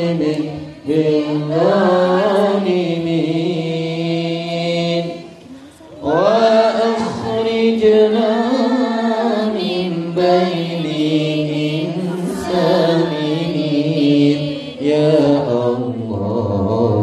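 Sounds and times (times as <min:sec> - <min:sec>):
man chanting over a microphone: 0:00.0 - 0:17.0.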